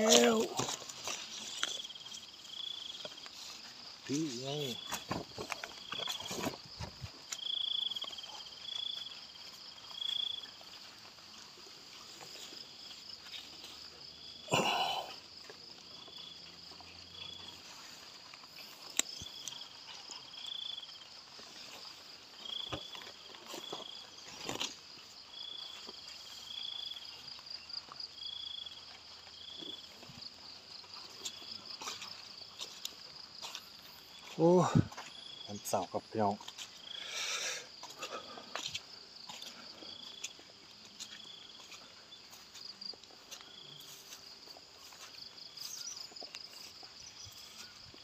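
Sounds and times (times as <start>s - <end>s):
insect chorus: 0.0s - 48.0s.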